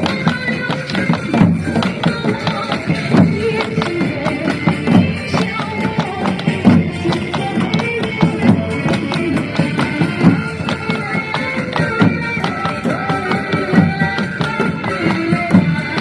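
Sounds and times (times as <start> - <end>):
dance music with percussion beat: 0.0 - 16.0.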